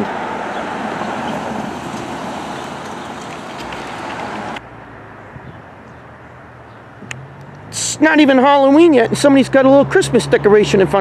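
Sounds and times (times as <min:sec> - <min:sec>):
outdoor background noise: 0:00.0 - 0:11.0
passing vehicle tyres and engine: 0:00.0 - 0:11.0.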